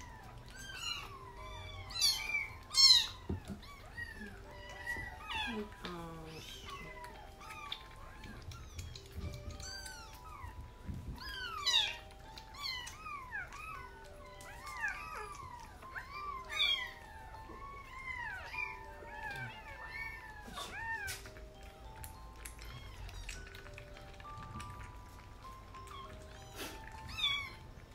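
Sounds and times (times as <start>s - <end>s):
kittens mewing: 0.0s - 27.9s
soft background music: 0.0s - 27.9s.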